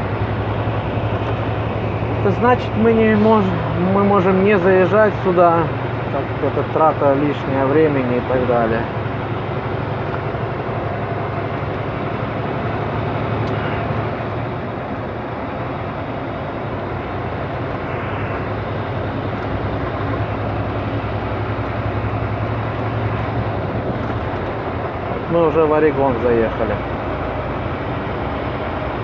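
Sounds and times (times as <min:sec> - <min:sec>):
road noise: 0:00.0 - 0:29.0
truck diesel engine droning: 0:00.0 - 0:29.0.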